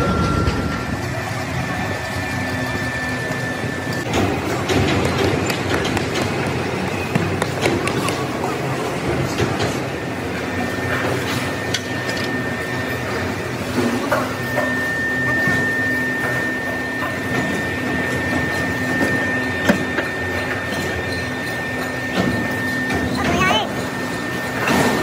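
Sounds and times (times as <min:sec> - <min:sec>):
low machinery hum: 0:00.0 - 0:25.0
machinery whine: 0:00.0 - 0:25.0.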